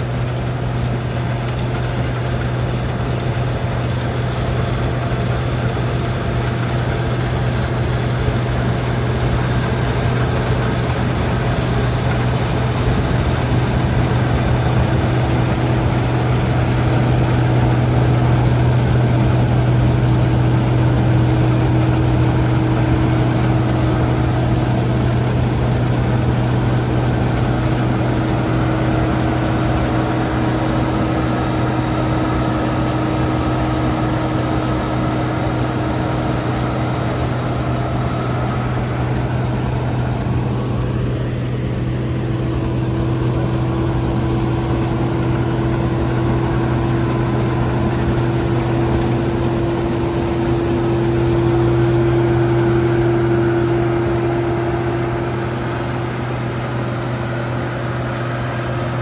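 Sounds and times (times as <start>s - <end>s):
combine harvester engine drone: 0.0s - 59.0s
threshing machinery turning: 0.1s - 59.0s.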